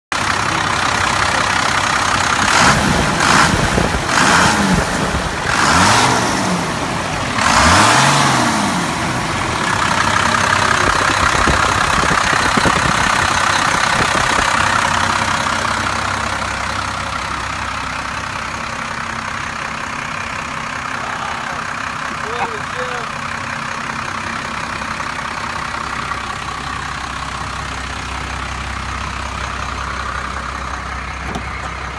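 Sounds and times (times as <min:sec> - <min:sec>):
diesel engine revving and idling: 0:00.1 - 0:31.9.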